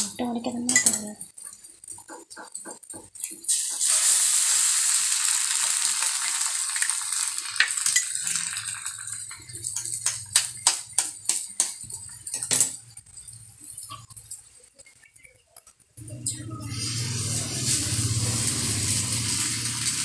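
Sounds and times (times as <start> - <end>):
egg sizzling in hot oil: 0.0 - 16.0, 16.6 - 20.0.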